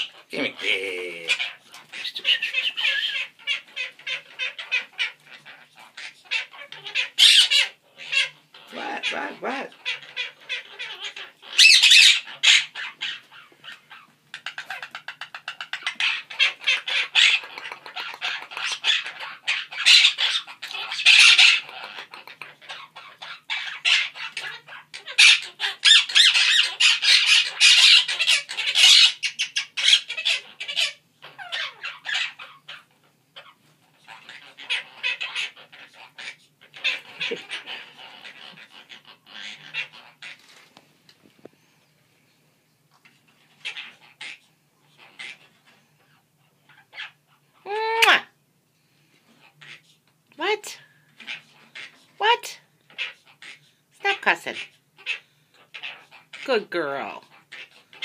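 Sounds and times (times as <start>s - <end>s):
parrots chattering and squawking: 0.0s - 40.8s, 42.8s - 58.0s.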